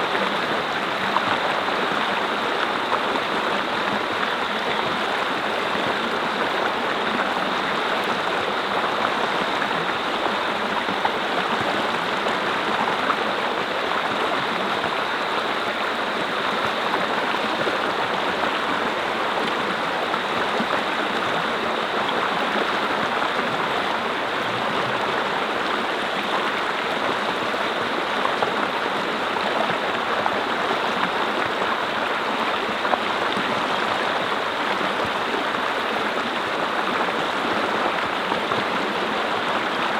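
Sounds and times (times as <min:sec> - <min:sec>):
brook flowing over rocks: 0:00.0 - 0:39.9.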